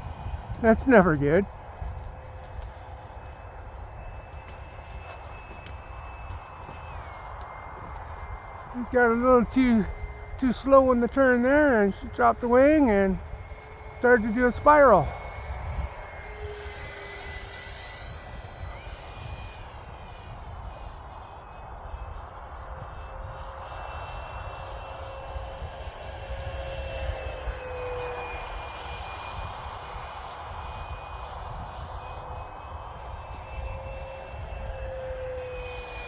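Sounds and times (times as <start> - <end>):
electric ducted fan whining: 0.0 - 36.0
wind rumble on microphone: 0.0 - 36.0.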